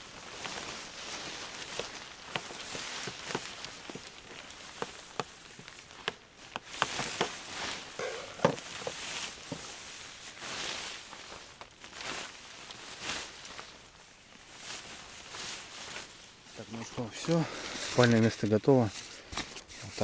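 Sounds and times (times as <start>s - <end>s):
rustling of tent gear: 0.0s - 20.0s.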